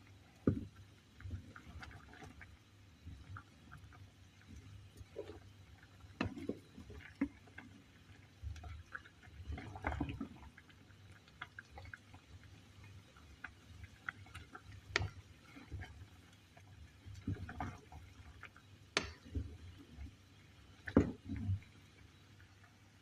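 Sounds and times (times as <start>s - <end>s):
water simmering with bubbling pops: 0.0s - 23.0s.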